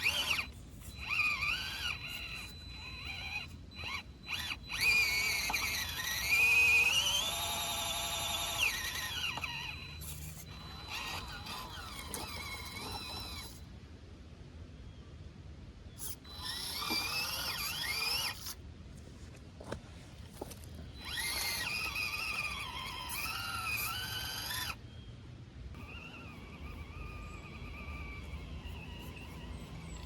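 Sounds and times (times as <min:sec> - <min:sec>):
electric motor and gearbox whine: 0:00.0 - 0:13.7, 0:16.0 - 0:18.6, 0:19.6 - 0:30.0.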